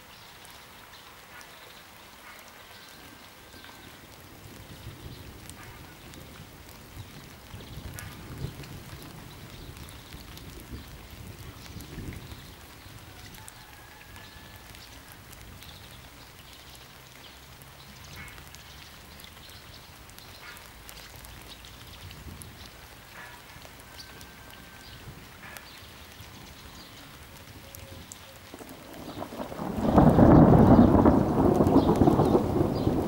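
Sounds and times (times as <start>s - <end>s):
light rain falling: 0.0s - 33.0s.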